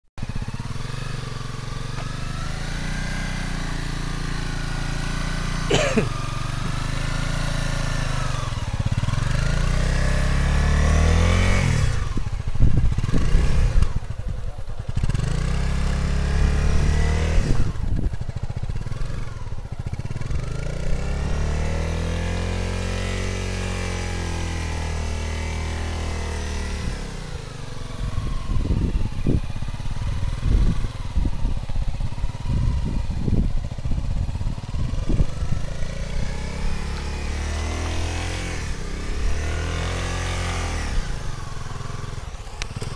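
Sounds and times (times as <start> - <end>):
motorcycle engine revving: 0.2 - 42.9.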